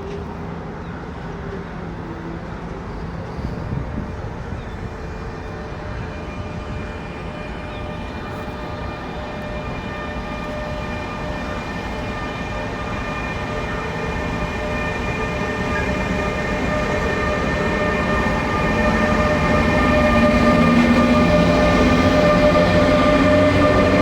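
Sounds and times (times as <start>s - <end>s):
train approaching: 0.0s - 24.0s.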